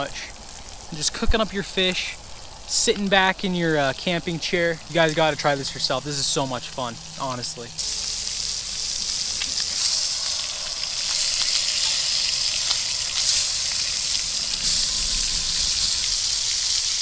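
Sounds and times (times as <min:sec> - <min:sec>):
fish sizzling in a skillet: 0:00.0 - 0:17.0
small crackles: 0:00.0 - 0:17.0.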